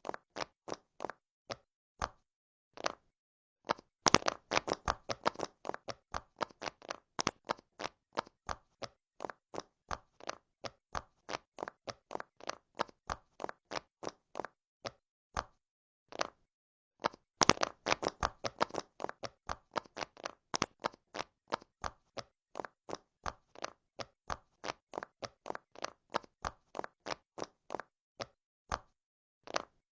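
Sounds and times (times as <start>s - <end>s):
fidget toy bubbles popping: 0.0s - 2.2s, 3.7s - 16.4s, 17.0s - 29.8s.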